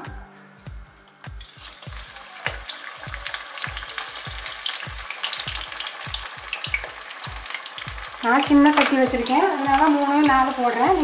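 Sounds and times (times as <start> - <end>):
batter sizzling in hot oil: 1.4 - 11.0.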